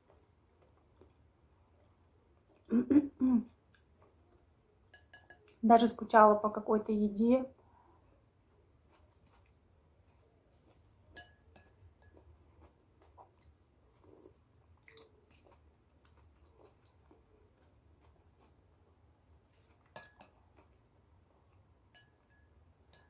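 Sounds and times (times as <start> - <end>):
quiet chewing: 0.0 - 2.8, 3.4 - 5.6, 7.6 - 23.0.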